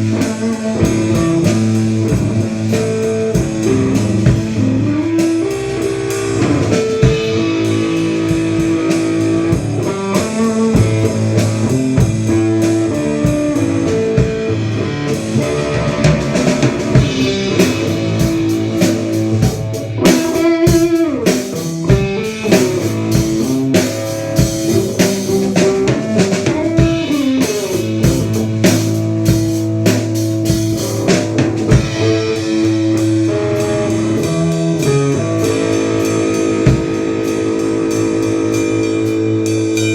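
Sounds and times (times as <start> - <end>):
drum kit beat: 0.0 - 39.9
electric guitar bent notes: 0.0 - 39.9.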